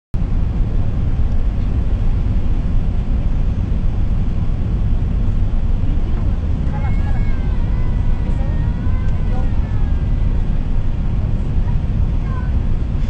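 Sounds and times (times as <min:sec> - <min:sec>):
jet airliner cabin rumble: 0:00.2 - 0:13.0.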